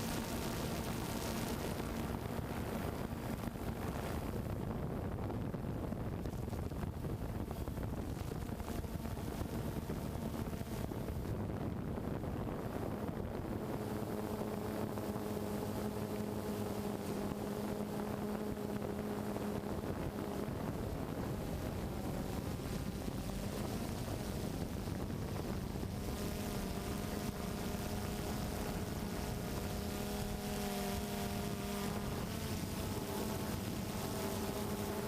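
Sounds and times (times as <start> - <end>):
drone propellers humming: 0.0 - 35.0
wind noise: 0.0 - 35.0.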